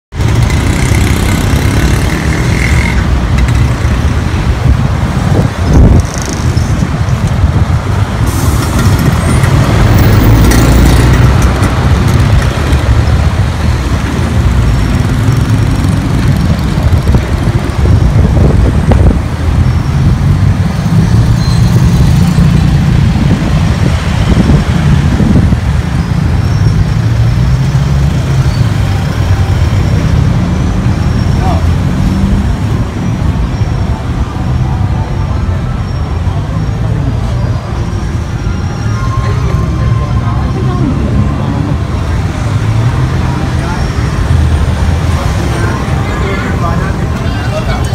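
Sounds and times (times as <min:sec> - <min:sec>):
car and motorbike engines passing: 0:00.2 - 0:47.9.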